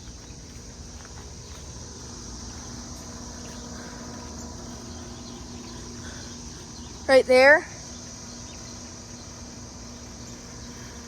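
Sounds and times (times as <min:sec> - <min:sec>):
air conditioner hum and fan: 0:00.0 - 0:11.0
insects chirring: 0:00.0 - 0:11.0.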